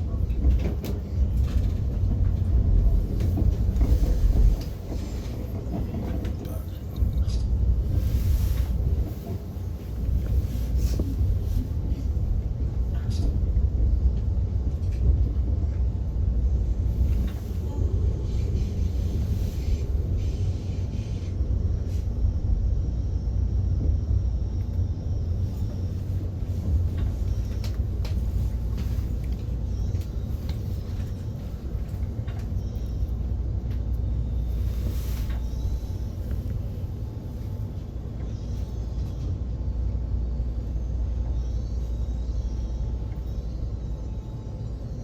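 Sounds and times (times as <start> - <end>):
train rumble from inside carriage: 0.0 - 45.0.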